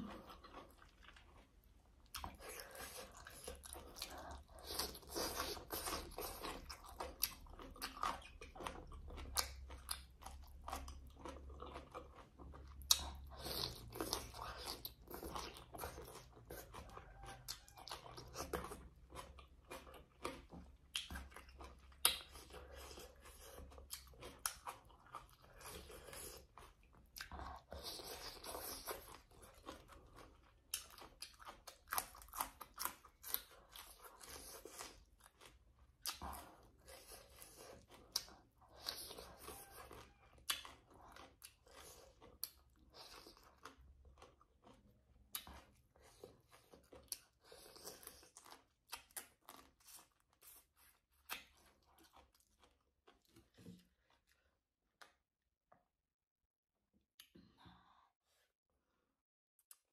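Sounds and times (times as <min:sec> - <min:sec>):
chewing and crunching food: 0:00.0 - 0:55.2.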